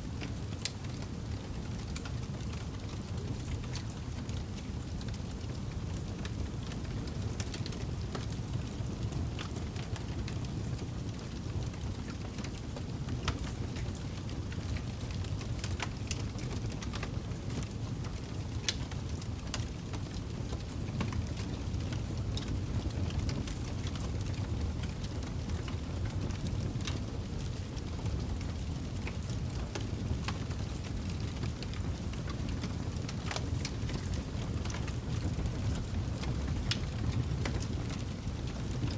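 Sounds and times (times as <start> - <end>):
low rumble of flames: 0.0 - 38.9
burning wood crackling and popping: 0.2 - 38.9.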